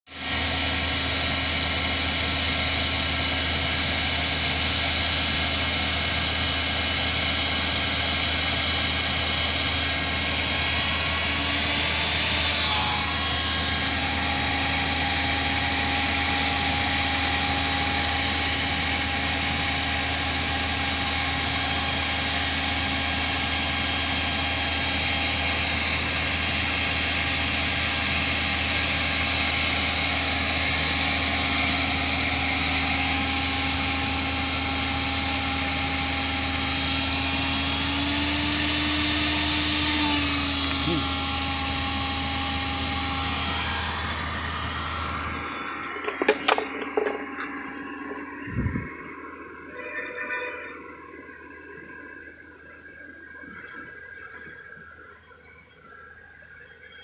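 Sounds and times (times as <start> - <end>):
motor humming and whining: 0.1 - 57.0.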